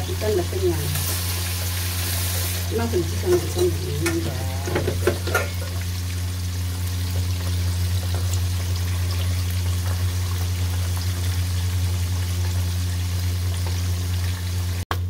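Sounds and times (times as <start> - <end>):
steady low hum: 0.0 - 13.5
fish sizzling in hot oil: 0.0 - 14.8.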